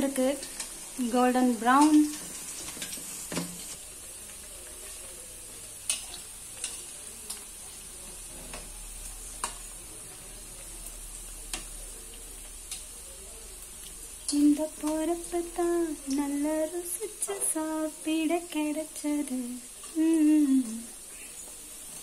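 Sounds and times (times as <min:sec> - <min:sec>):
fritters sizzling in oil: 0:00.0 - 0:22.0.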